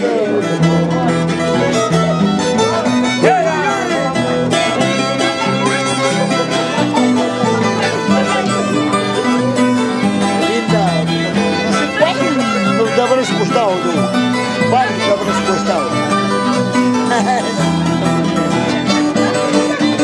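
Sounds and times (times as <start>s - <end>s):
harp plucked bass notes: 0.0s - 20.0s
violin bowed melody: 0.0s - 20.0s.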